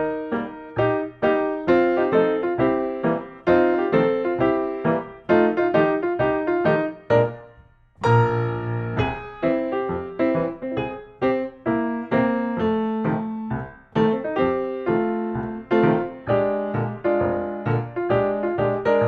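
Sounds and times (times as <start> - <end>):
piano chords and notes: 0.0 - 19.0.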